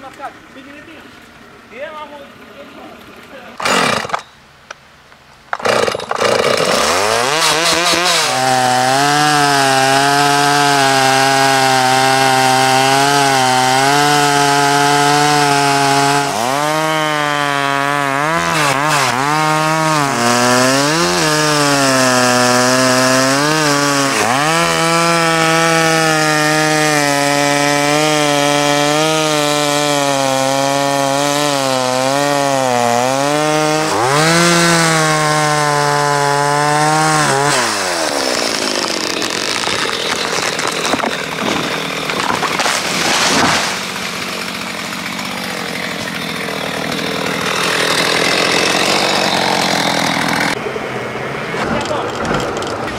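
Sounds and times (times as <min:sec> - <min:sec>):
chainsaw cutting into tree trunk: 0:03.6 - 0:04.4, 0:05.5 - 0:50.6.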